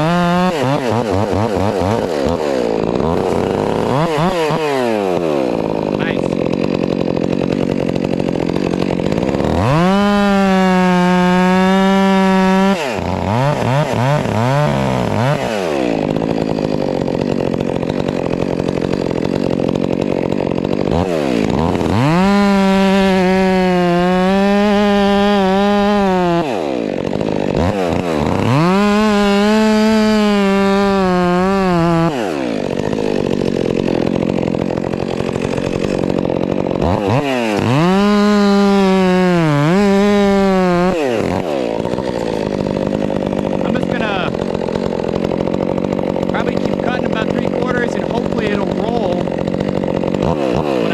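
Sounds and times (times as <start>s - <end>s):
chainsaw cutting log: 0.0s - 50.9s.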